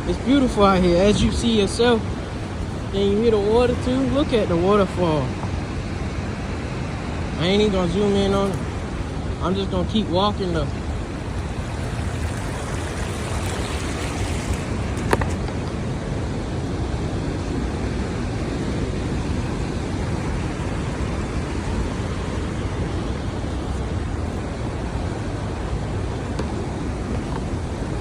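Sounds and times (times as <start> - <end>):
waterfall and stream rushing: 0.0 - 28.0.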